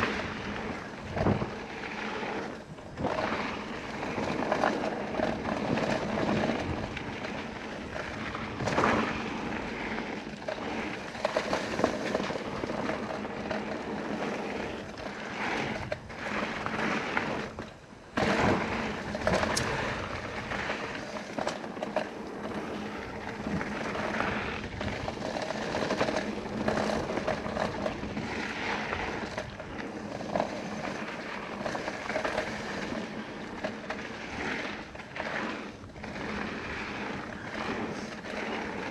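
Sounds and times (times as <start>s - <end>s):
bike rattling and knocking: 0.0s - 38.9s
tyres rushing over dirt and gravel: 0.0s - 38.9s
wind buffeting microphone: 0.0s - 38.9s.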